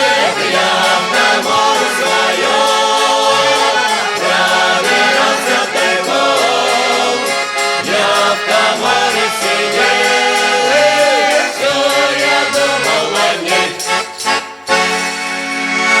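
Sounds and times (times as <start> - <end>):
choir singing folk song: 0.0 - 16.0.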